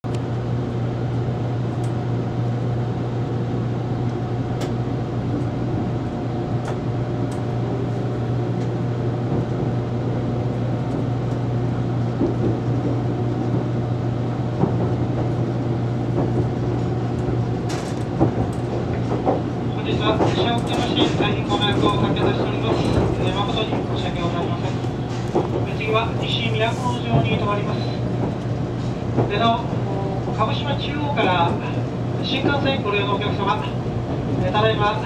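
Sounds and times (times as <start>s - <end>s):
train running hum: 0.0s - 35.0s
wheels rumbling on track: 2.5s - 35.0s.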